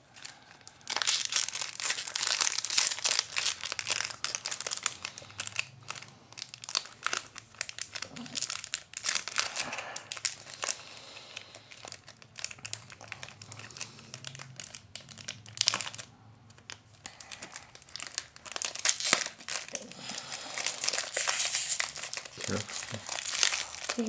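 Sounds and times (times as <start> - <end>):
foil wrapper crinkling: 0.1 - 24.0.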